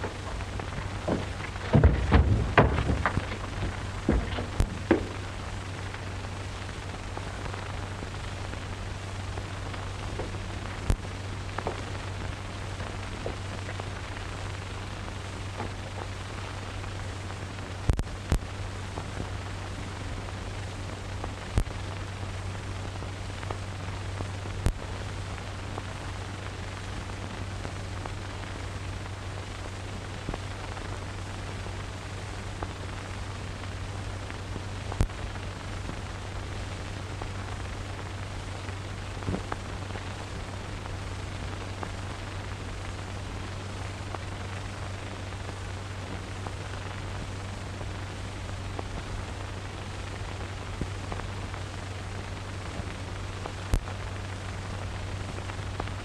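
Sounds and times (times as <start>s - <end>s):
film soundtrack hiss and hum: 0.0s - 56.0s.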